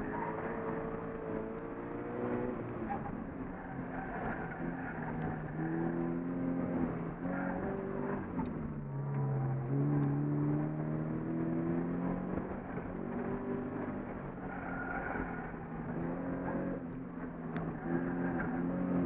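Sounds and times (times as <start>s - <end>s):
car engine under hard driving: 0.0s - 19.0s.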